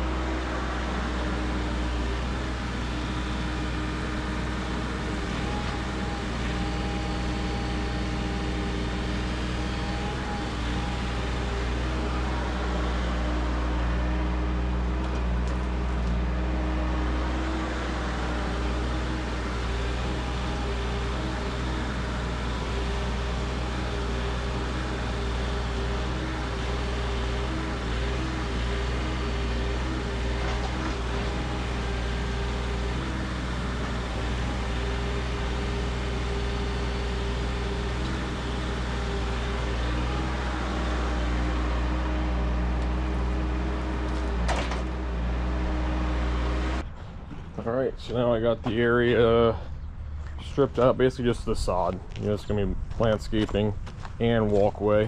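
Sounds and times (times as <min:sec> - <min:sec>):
machine engine running: 0:00.0 - 0:53.5.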